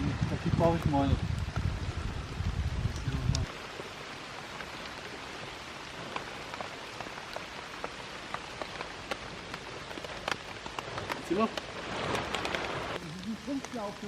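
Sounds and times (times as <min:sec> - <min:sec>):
light rain: 0:00.0 - 0:14.0.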